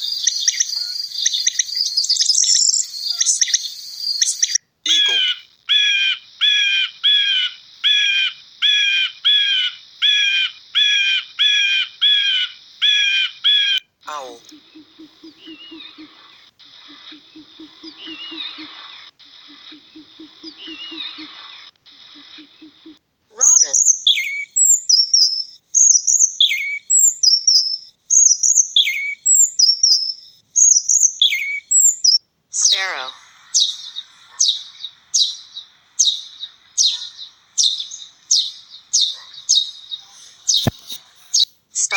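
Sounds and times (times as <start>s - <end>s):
robin singing: 0.0s - 41.9s
eagle calling harsh cries: 2.7s - 27.6s, 31.2s - 40.7s.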